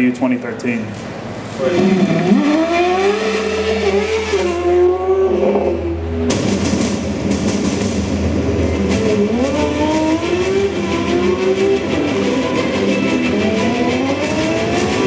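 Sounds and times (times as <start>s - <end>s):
race car engine revving: 1.0s - 15.0s.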